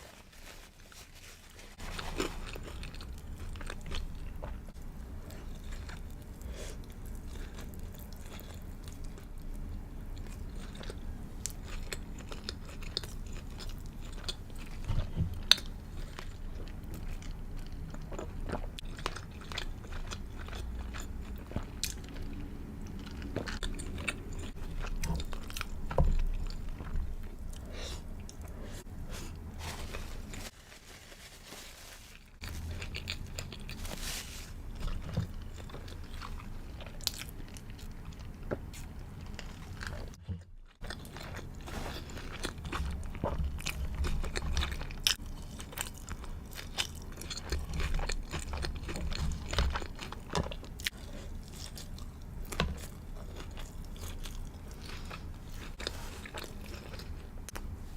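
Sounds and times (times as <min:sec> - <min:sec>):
crunchy chewing: 0:01.7 - 0:30.5, 0:32.1 - 0:57.8.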